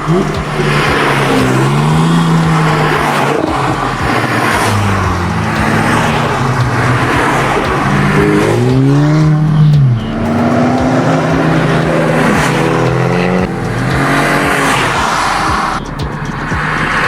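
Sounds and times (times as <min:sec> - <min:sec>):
sports car engine revving: 0:00.0 - 0:17.0.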